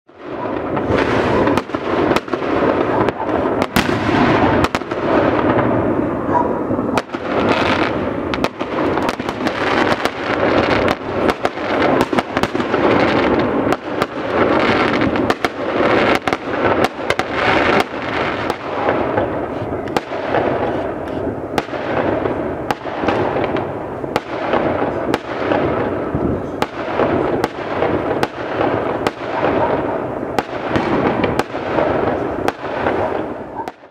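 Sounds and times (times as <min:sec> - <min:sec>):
fireworks bangs and cracks: 0:00.1 - 0:33.9
rumble of distant explosions: 0:00.1 - 0:33.9.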